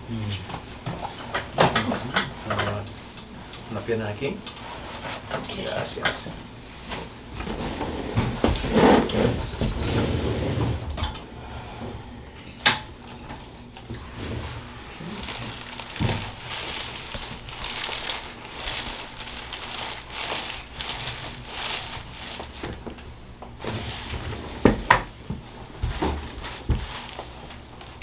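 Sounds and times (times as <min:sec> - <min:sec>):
rustling and crinkling: 0:00.3 - 0:11.1, 0:11.8 - 0:28.0.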